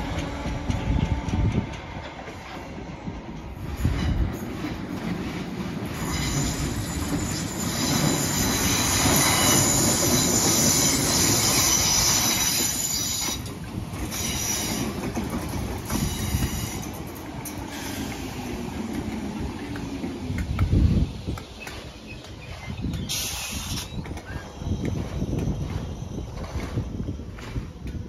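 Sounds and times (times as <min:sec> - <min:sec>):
train wheel squeal: 0:00.0 - 0:18.7, 0:21.4 - 0:28.0
rumble and rattle of wheels: 0:00.0 - 0:28.0.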